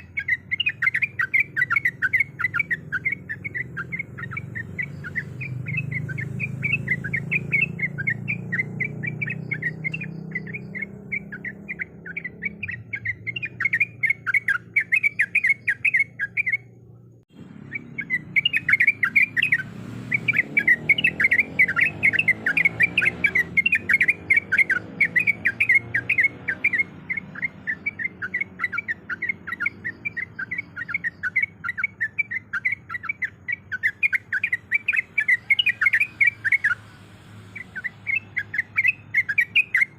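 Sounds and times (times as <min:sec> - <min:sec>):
bird singing bubbly chatter: 0:00.0 - 0:39.9.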